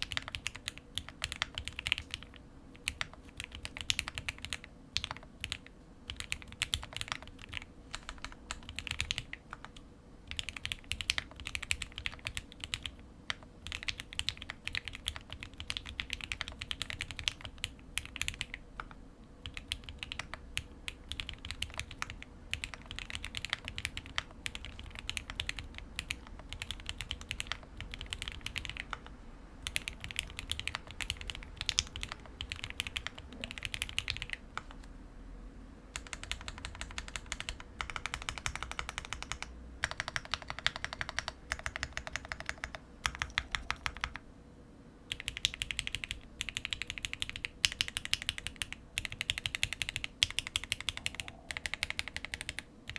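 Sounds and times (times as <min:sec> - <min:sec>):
mechanical keyboard typing: 0:00.0 - 0:34.9, 0:35.9 - 0:44.2, 0:45.1 - 0:52.9.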